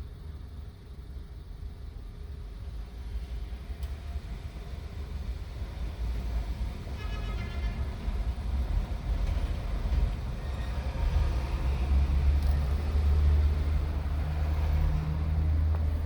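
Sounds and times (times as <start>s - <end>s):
road traffic rumble: 0.1s - 16.0s.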